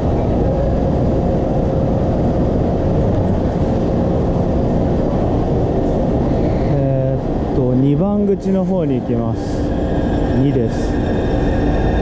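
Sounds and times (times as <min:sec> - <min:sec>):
loud rumbling in station: 0:00.0 - 0:12.0.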